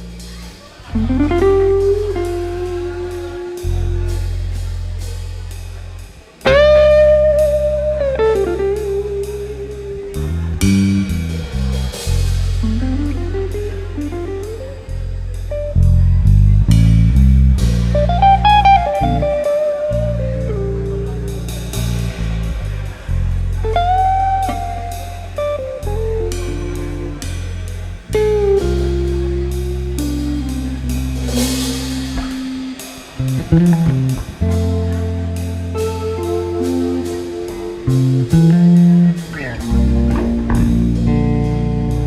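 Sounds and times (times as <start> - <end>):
bass guitar: 0.0 - 42.0
drum kit cymbals: 0.0 - 42.0
guitar with sliding notes: 0.8 - 4.8, 6.4 - 42.0.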